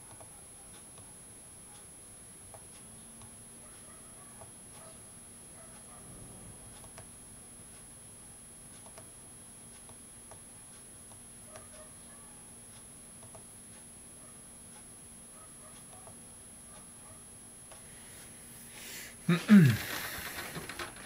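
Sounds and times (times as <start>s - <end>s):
faint ticks and clicks: 0.0s - 5.0s, 6.6s - 8.0s, 8.6s - 17.9s, 19.6s - 21.0s
steady low hum: 0.0s - 21.0s.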